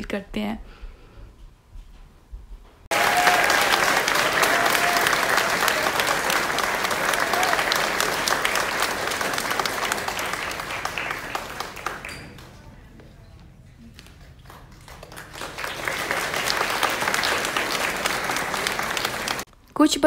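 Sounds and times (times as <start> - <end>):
audience applauding: 2.9 - 19.5.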